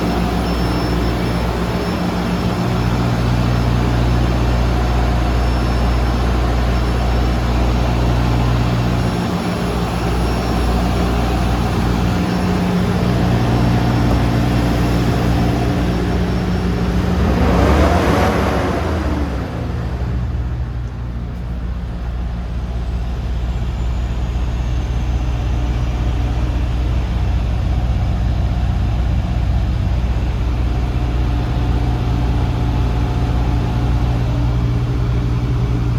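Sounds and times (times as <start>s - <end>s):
diesel truck engine idling: 0.0s - 35.9s.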